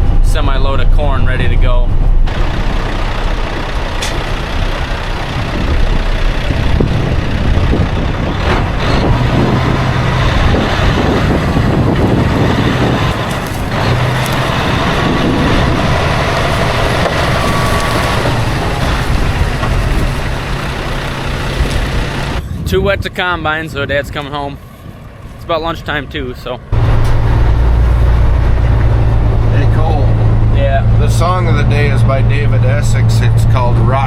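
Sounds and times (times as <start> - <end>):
diesel farm machinery engine: 0.0 - 34.0.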